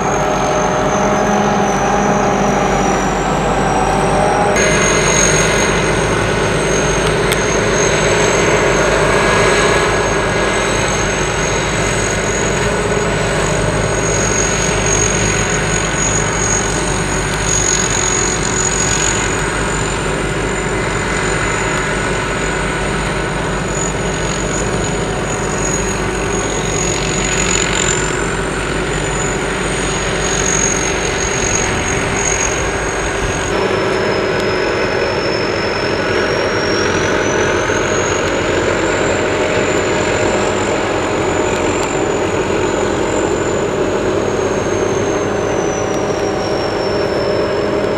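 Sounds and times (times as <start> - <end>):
combine harvester running: 0.0 - 47.9.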